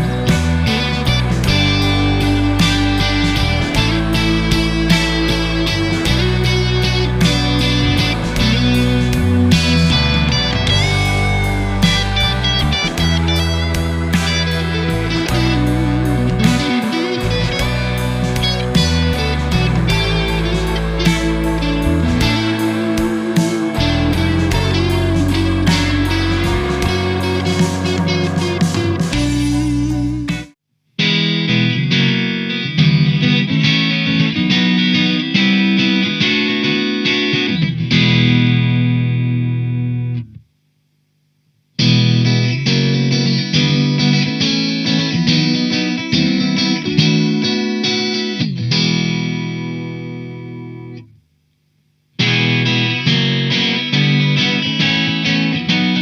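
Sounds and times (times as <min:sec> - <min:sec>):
electric guitar picked notes and chords: 0:00.0 - 0:40.5, 0:41.8 - 0:51.3, 0:52.2 - 0:56.0.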